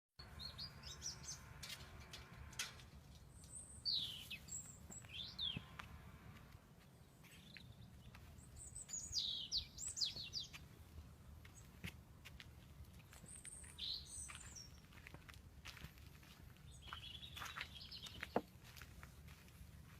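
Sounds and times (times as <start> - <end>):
small birds chirping: 0.2 - 1.8, 3.1 - 5.9, 6.8 - 15.3, 16.2 - 19.5.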